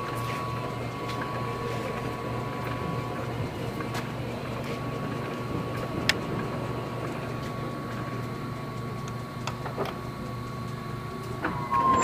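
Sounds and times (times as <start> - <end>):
lathe running with whine: 0.0 - 12.0.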